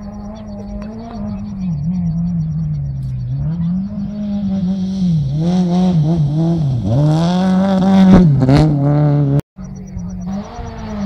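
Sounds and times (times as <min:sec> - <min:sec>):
engine crackle: 0:00.0 - 0:11.0
rally car engine revving: 0:00.0 - 0:11.0.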